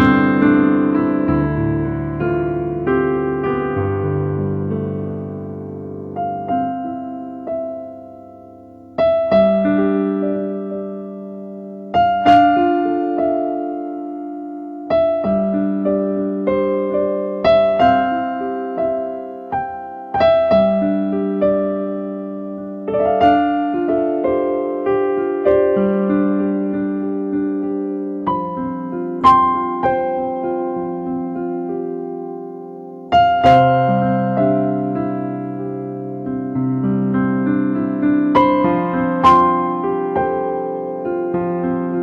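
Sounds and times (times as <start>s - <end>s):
slow keyboard piano chords: 0.0s - 42.0s.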